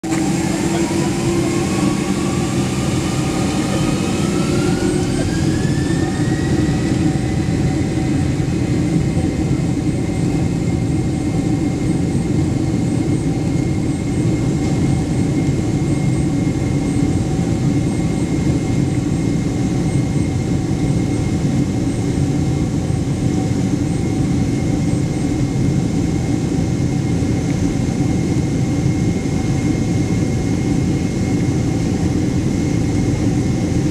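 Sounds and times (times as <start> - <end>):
aircraft engine whine: 0.0 - 33.9
loud continuous rumble: 0.0 - 33.9.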